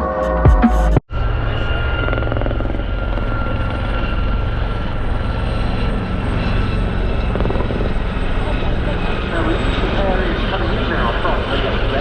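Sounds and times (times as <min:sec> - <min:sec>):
helicopter rotor thrum: 0:01.1 - 0:12.0
turbine whine: 0:01.1 - 0:12.0.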